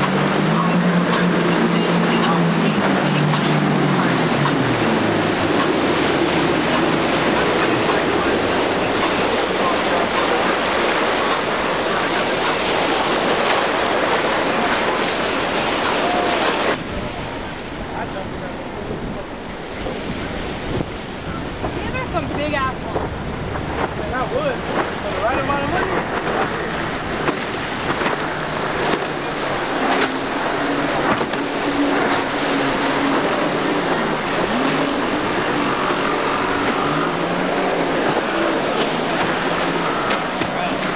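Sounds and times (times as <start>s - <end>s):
motorboat engines running: 0.0s - 40.9s
surf breaking: 0.0s - 40.9s
waves: 0.0s - 40.9s
wind: 0.0s - 40.9s.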